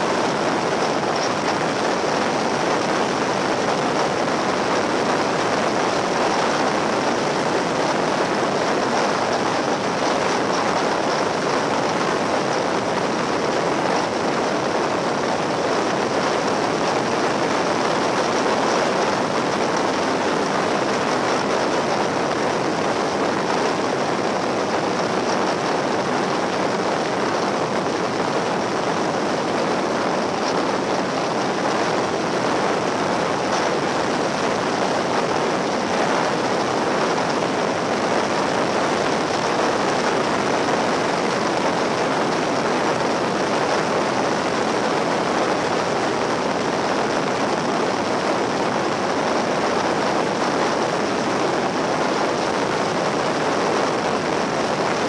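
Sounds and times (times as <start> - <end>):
motorcycle road noise: 0.0 - 55.0
wind rush: 0.0 - 55.0.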